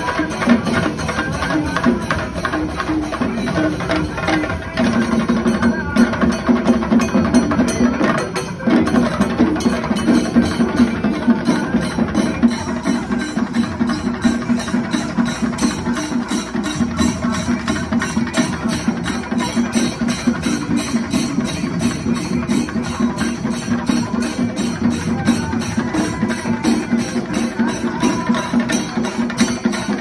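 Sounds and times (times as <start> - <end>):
drum ensemble beaten with sticks: 0.0 - 30.0.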